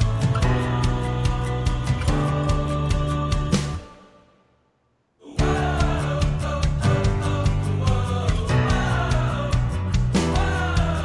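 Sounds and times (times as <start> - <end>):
background music with steady beat: 0.0 - 4.1, 5.4 - 11.0.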